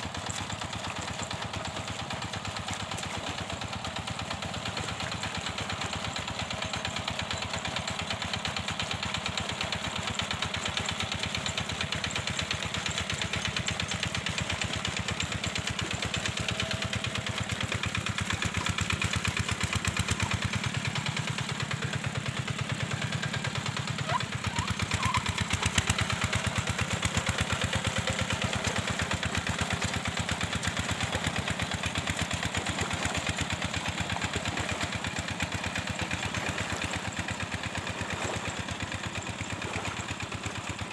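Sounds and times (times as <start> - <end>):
hand tractor engine chugging: 0.0 - 40.9.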